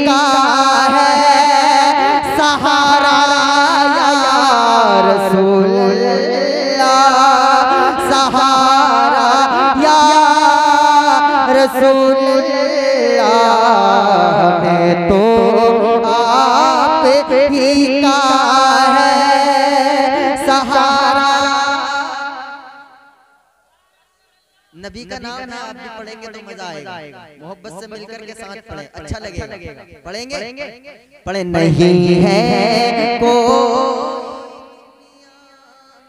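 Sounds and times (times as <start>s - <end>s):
man singing into a microphone: 0.0s - 23.0s, 24.7s - 36.0s.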